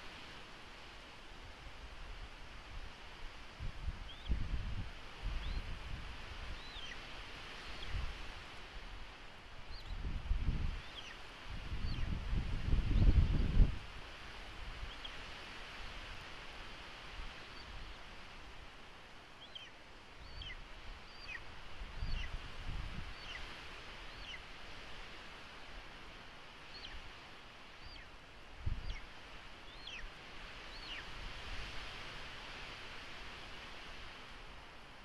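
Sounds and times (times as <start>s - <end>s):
wind hiss: 0.0s - 35.0s.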